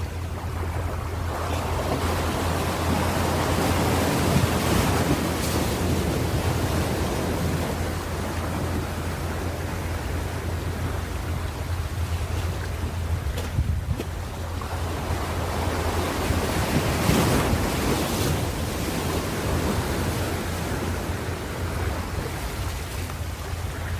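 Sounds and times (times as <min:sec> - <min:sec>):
low surf rumble: 0:00.0 - 0:23.9
ocean wave breaking: 0:00.0 - 0:23.9.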